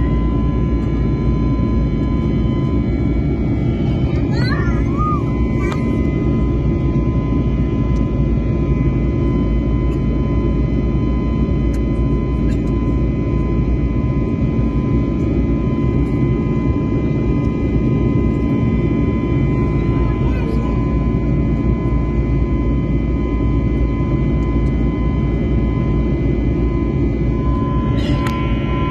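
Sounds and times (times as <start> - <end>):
airliner cabin roar: 0.0 - 28.9
high whine: 0.0 - 28.9.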